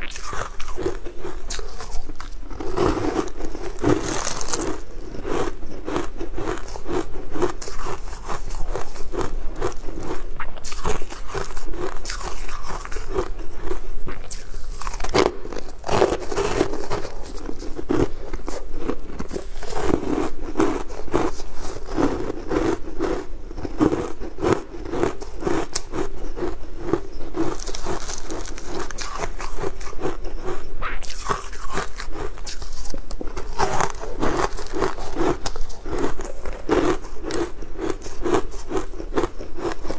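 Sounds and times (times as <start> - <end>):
crunchy food crunching: 0.0 - 39.9
wet chewing: 0.0 - 39.9.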